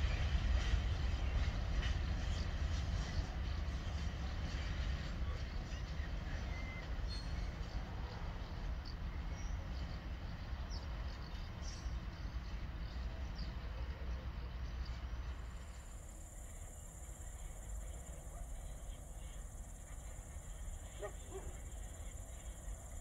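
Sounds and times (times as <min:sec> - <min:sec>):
freight train rumbling: 0:00.0 - 0:23.0.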